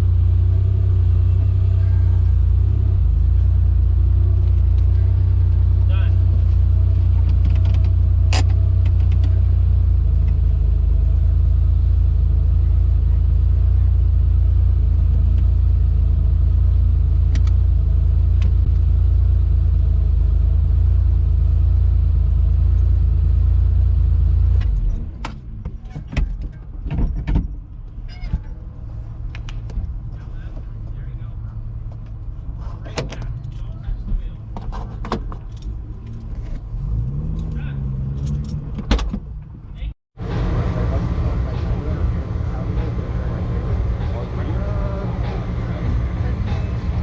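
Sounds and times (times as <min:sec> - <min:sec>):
car engine rumbling: 0:00.0 - 0:47.0.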